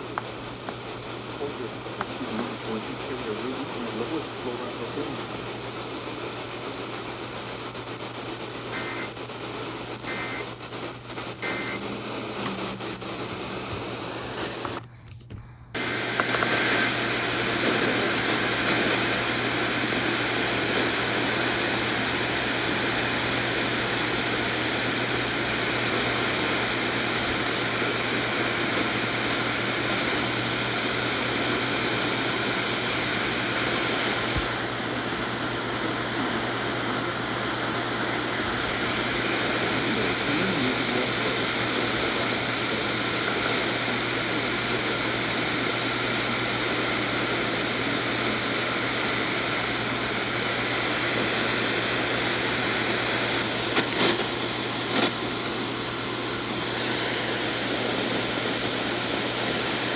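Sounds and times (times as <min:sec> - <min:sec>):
radio static hiss: 0:00.0 - 0:14.9, 0:15.7 - 0:59.9.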